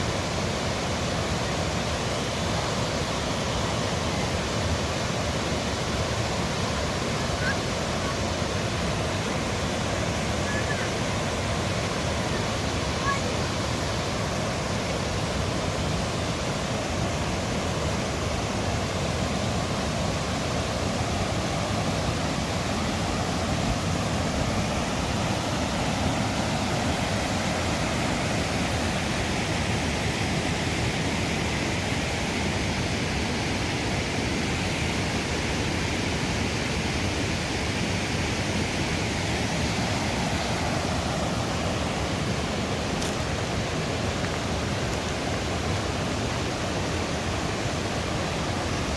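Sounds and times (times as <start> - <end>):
rushing water: 0.0 - 48.9.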